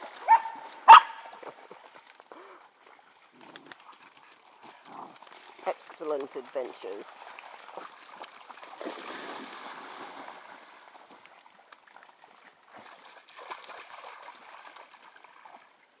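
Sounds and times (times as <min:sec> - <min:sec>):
dogs splashing in water: 0:00.0 - 0:15.8.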